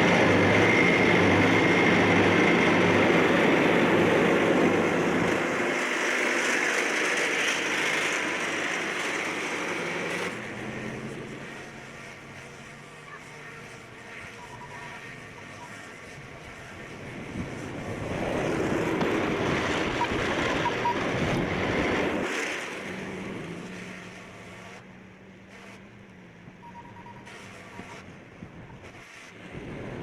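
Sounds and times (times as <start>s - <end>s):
large engine running: 0.0s - 30.0s.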